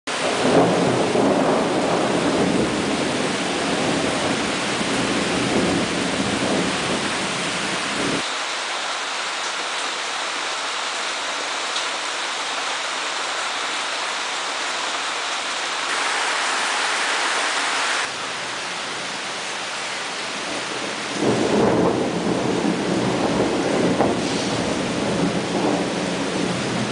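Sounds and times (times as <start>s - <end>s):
heavy rain on trees: 0.1s - 26.9s.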